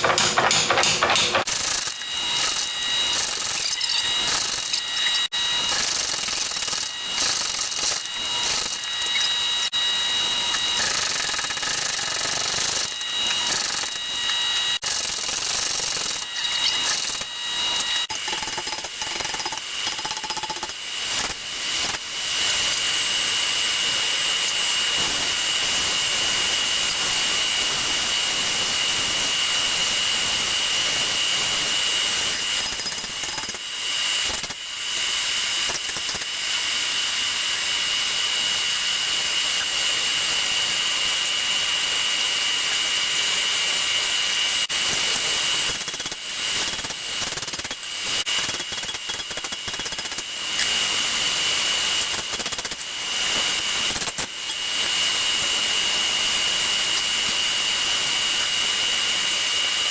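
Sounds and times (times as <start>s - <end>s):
power tool whining: 0.0s - 59.9s.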